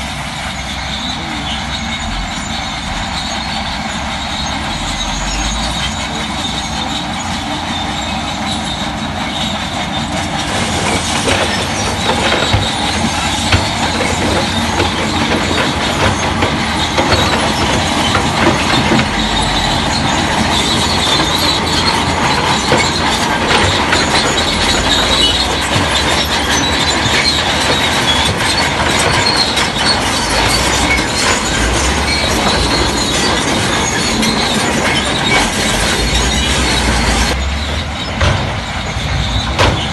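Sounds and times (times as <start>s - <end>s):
bulldozer engine running: 0.0s - 39.9s
crawler tracks clanking and squealing: 0.0s - 39.9s.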